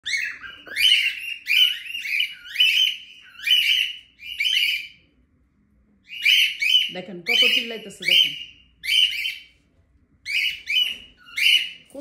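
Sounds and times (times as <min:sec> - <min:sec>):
parrots screaming: 0:00.0 - 0:05.0, 0:06.0 - 0:09.5, 0:10.2 - 0:12.0.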